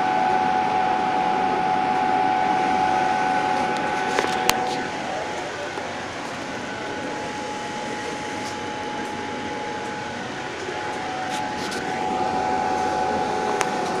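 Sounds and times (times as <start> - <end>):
laser cutter humming and whining: 0.0 - 14.0.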